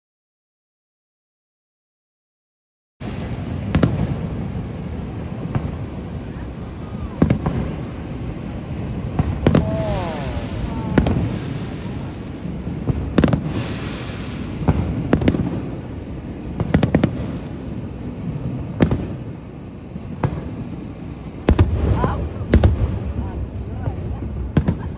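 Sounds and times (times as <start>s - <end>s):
fireworks booming: 3.0s - 24.9s
fireworks crackle: 3.0s - 24.9s.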